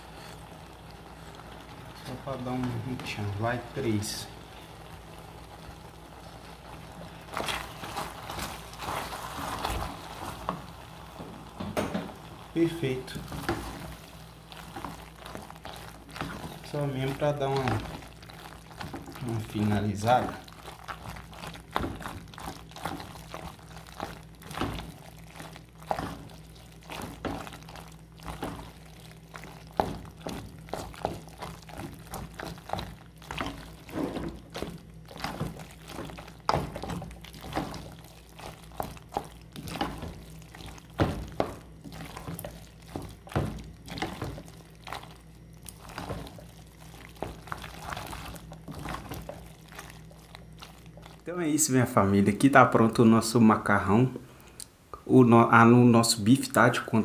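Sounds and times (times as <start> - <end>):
spoon stirring thick cheese sauce: 0.1 - 11.2, 12.3 - 53.0.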